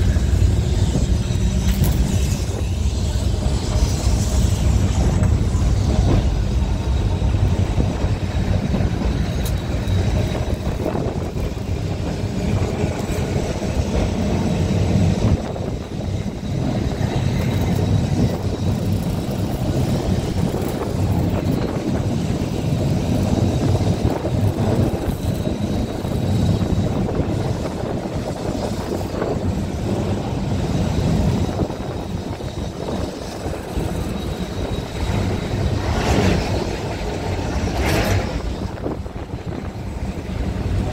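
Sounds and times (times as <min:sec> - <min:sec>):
strong wind noise: 0:00.0 - 0:40.9
tram rumble: 0:00.0 - 0:40.9.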